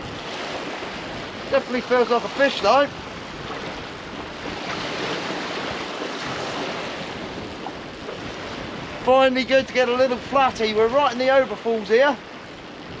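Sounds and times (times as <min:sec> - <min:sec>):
choppy sea water: 0:00.0 - 0:13.0
rushing wind: 0:00.0 - 0:13.0
wind buffeting microphone: 0:00.0 - 0:13.0.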